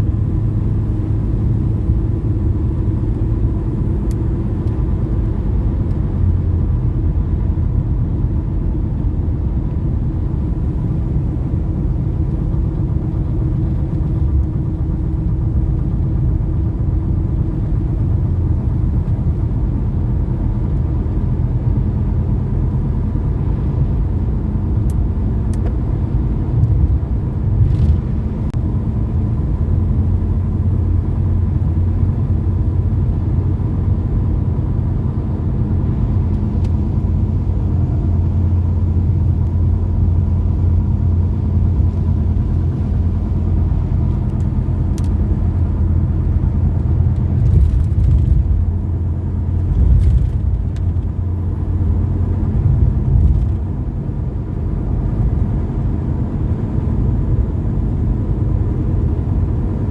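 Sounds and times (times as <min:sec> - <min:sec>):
low rumble: 0:00.0 - 0:59.9.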